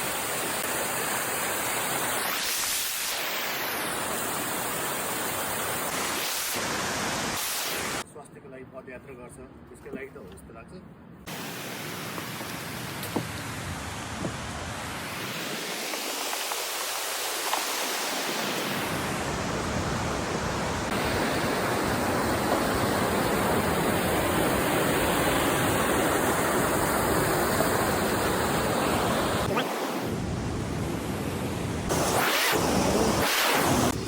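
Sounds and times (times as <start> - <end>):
rushing water: 0.0 - 8.0, 11.3 - 34.0
wind: 0.0 - 34.0.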